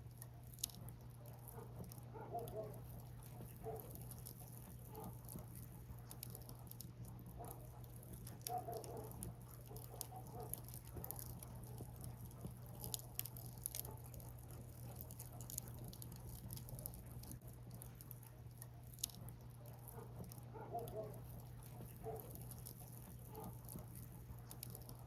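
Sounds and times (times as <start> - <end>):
firewood crackling and popping: 0.0 - 25.0.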